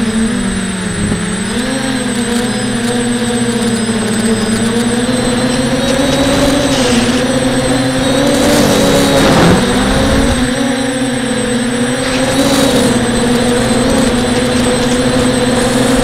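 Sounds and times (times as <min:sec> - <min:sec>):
model aircraft propellers buzzing: 0:00.0 - 0:16.0.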